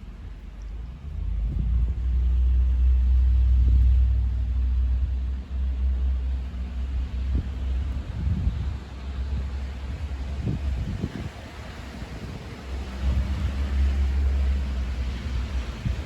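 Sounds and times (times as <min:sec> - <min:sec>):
snowstorm wind gusting: 0:01.1 - 0:16.0.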